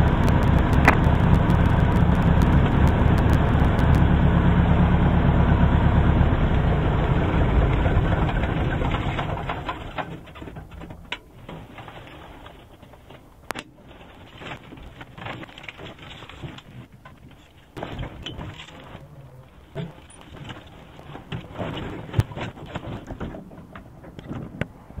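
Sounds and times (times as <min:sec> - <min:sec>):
handling clicks and rattles: 0:00.0 - 0:04.0, 0:07.8 - 0:24.8.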